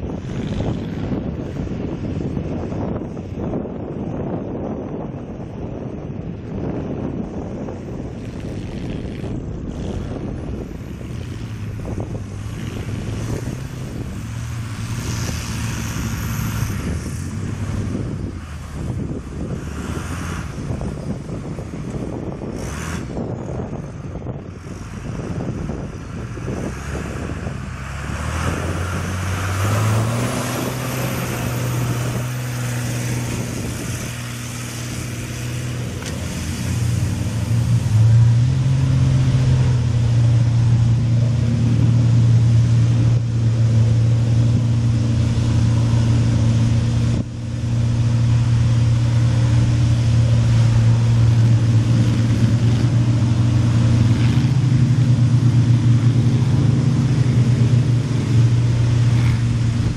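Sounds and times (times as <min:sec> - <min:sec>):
truck engine under throttle: 0:00.0 - 0:59.9.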